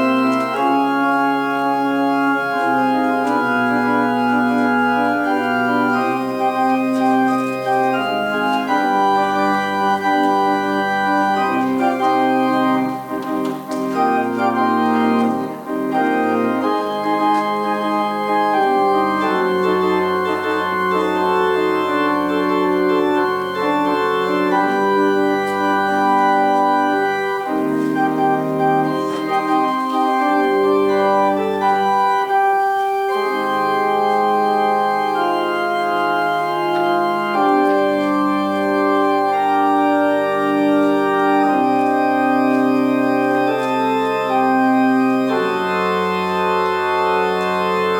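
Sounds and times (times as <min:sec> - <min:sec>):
organ playing sustained chords: 0:00.0 - 0:47.9.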